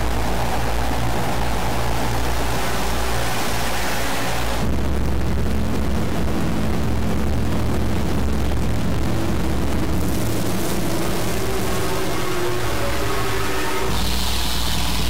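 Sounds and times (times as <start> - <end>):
deep bass rumble: 0.0 - 15.0
held low tones: 0.0 - 15.0.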